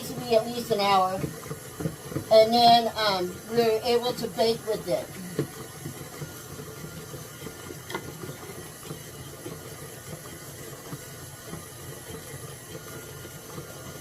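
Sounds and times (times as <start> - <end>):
steady background hum: 0.0 - 14.0
whisk scraping dough in bowl: 0.0 - 14.0.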